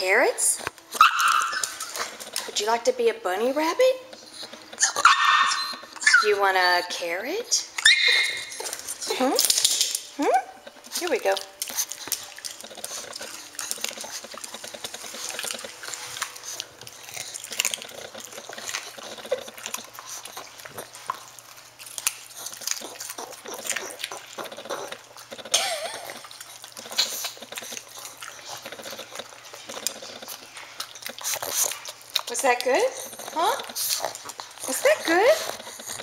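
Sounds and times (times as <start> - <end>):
dog crunching a carrot: 0.0 - 36.0.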